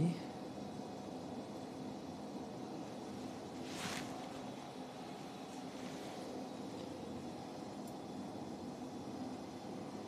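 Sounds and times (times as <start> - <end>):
equipment humming: 0.0 - 10.0.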